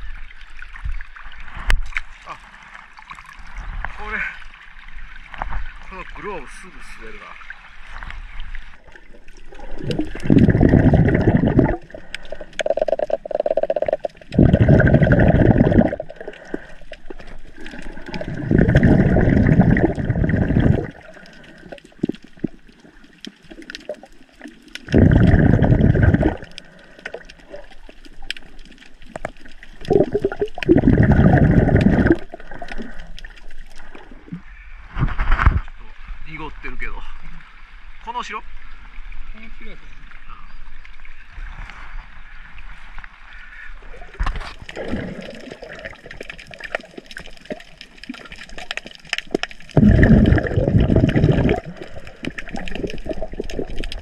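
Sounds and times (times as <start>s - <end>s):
underwater rushing gurgling water: 0.0s - 34.4s, 43.8s - 54.0s
faint underwater crackling: 0.0s - 54.0s.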